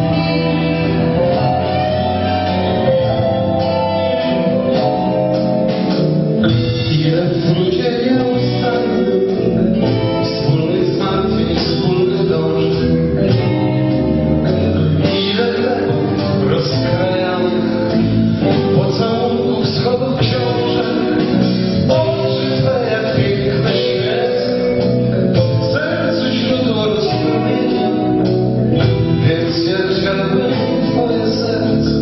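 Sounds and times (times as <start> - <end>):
man singing: 0.0 - 3.5, 5.7 - 32.0
rock band playing: 0.0 - 32.0.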